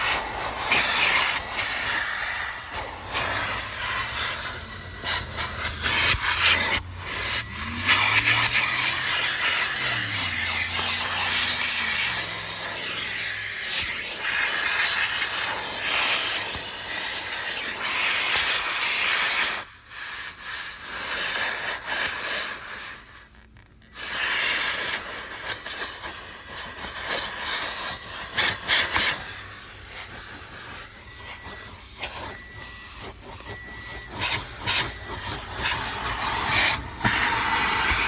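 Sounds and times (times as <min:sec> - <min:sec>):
vacuum hose rushing hiss: 0:00.0 - 0:23.0, 0:24.0 - 0:38.0.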